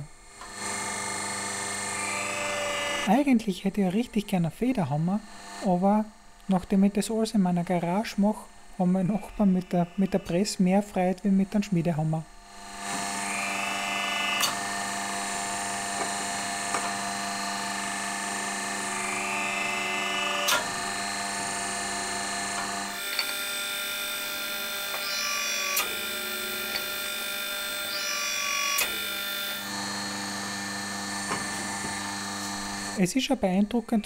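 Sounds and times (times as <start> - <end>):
hydraulic pump humming with whine: 0.0 - 34.0.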